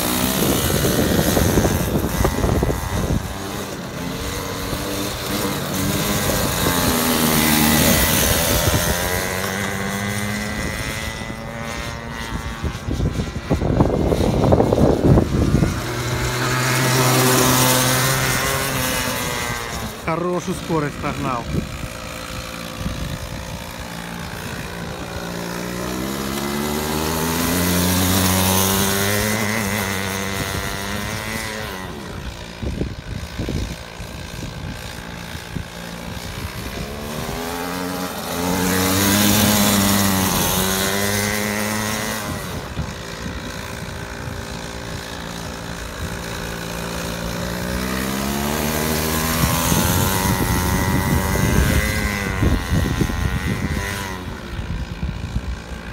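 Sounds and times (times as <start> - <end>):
go-kart engine revving: 0.0 - 55.9.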